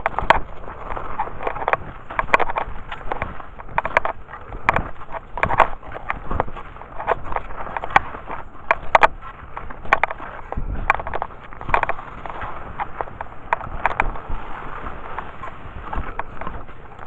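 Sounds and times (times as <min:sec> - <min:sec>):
ski poles clicking: 0:00.0 - 0:17.0
skis crunching and swishing in snow: 0:00.0 - 0:17.0.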